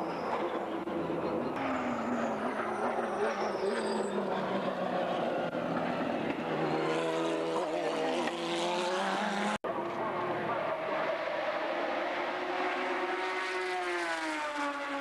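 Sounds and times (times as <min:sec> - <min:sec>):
race car engine passing: 0:00.2 - 0:15.0.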